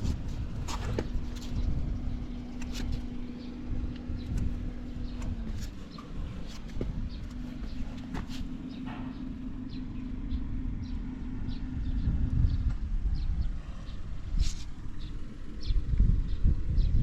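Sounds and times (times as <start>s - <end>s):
atv engine idling: 0.0s - 17.0s.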